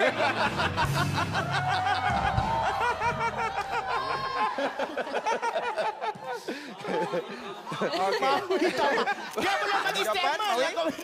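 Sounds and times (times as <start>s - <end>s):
people laughing: 0.0s - 11.0s.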